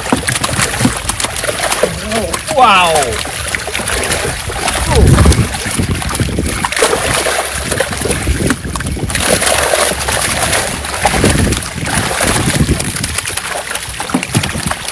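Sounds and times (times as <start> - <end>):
fish thrashing and splashing: 0.0 - 14.9.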